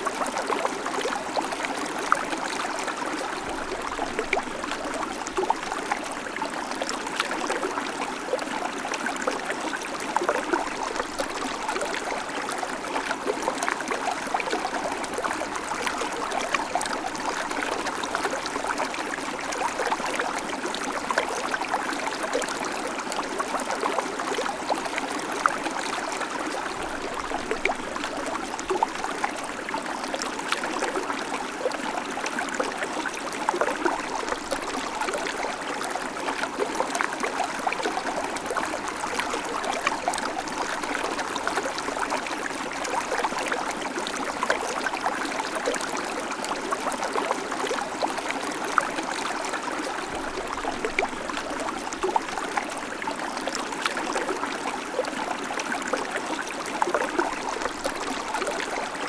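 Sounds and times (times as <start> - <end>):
creek water babbling over stones: 0.0 - 59.0.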